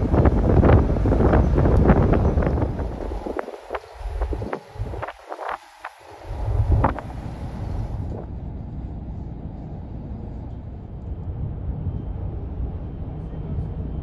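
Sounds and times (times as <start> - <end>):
ferry low rumble: 0.0 - 14.0.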